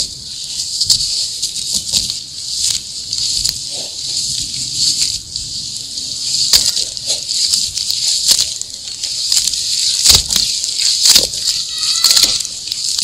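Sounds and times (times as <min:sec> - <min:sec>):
hands squelching wet cement mud: 0:00.0 - 0:13.0.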